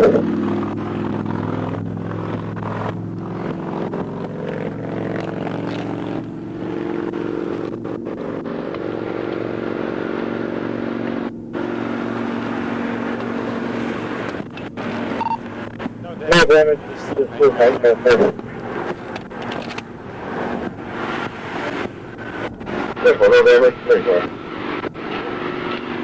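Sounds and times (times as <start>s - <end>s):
road noise: 0.0s - 26.0s
vehicle engine running: 0.0s - 26.0s.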